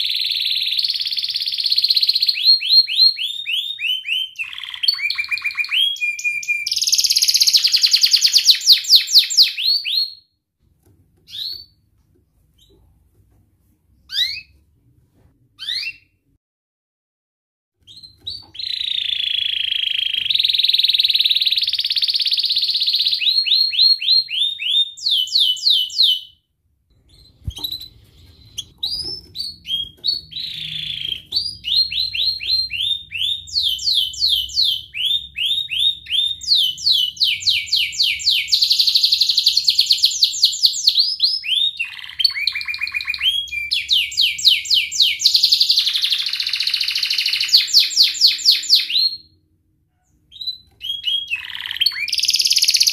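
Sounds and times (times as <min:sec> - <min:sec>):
canary singing trills: 0:00.0 - 0:10.2, 0:11.3 - 0:11.8, 0:14.1 - 0:14.6, 0:17.9 - 0:26.4, 0:27.0 - 0:49.4, 0:50.0 - 0:52.9.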